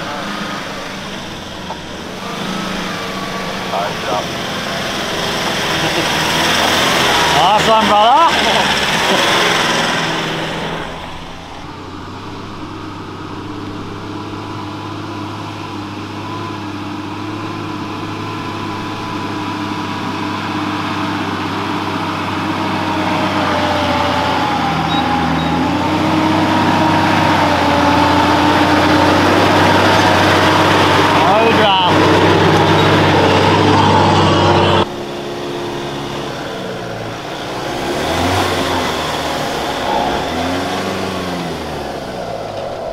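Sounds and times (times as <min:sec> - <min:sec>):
off-road vehicle engine: 0:00.0 - 0:42.9.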